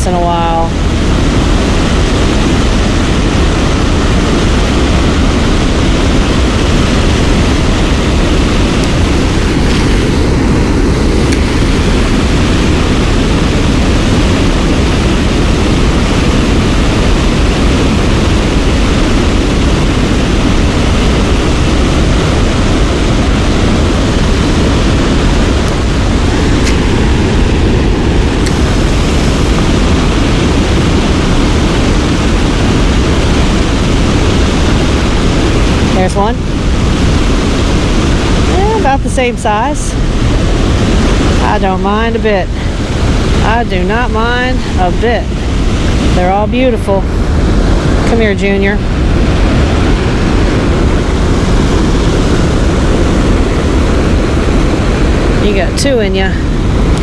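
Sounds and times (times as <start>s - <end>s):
river water rushing over spillway: 0.0s - 57.0s.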